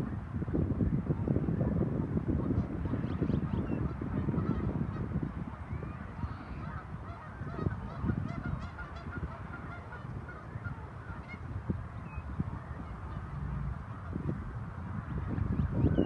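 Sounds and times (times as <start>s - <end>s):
steady low rumble: 0.0s - 16.0s
waterbirds calling: 2.9s - 16.0s.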